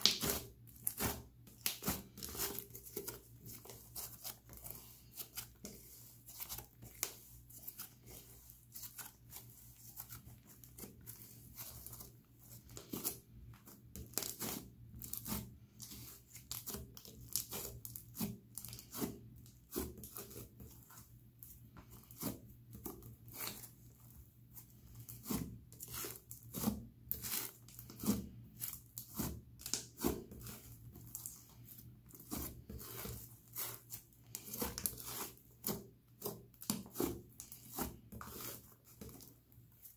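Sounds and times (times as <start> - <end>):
slime being kneaded by hand: 0.0 - 39.9.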